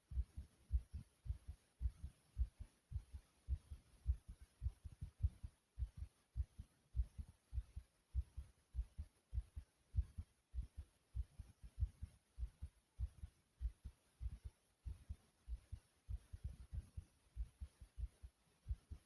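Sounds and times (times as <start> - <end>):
heartbeat thumps: 0.1 - 19.0.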